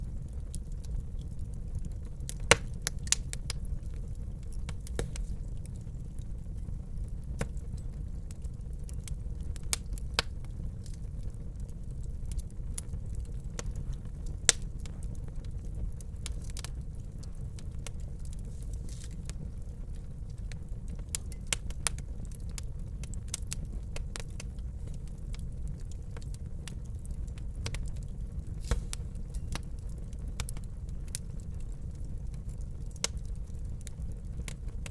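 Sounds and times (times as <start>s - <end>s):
fire crackling in fireplace: 0.0s - 34.9s.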